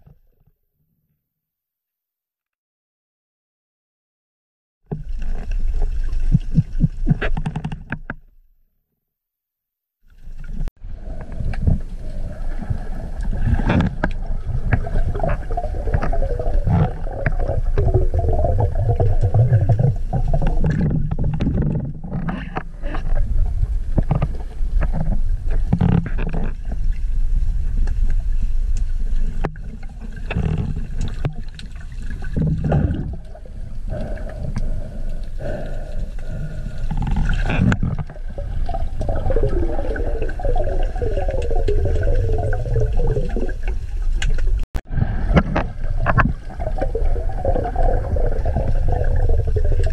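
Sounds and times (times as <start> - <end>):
water gurgling: 4.9 - 7.8, 10.2 - 49.9
underwater rumble of moving water: 4.9 - 8.2, 10.2 - 49.9.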